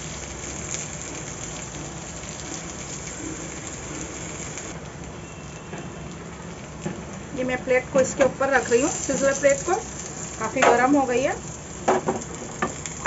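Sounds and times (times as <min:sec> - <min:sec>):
hot plate hissing and crackling: 0:00.0 - 0:13.0.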